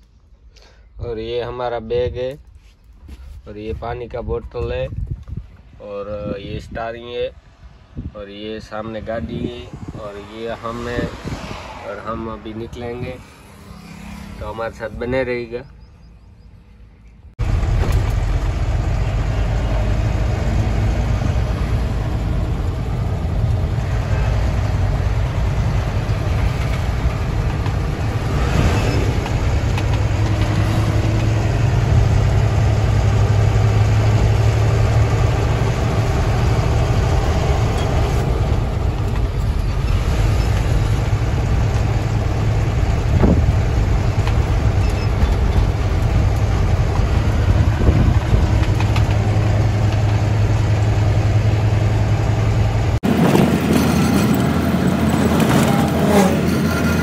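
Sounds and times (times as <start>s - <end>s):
truck engine and road noise: 0.0s - 57.0s.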